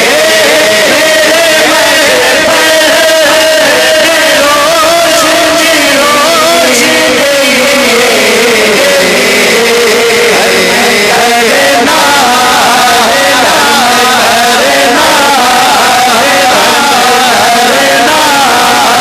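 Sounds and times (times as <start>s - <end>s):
men singing devotional song over pa: 0.0s - 19.0s.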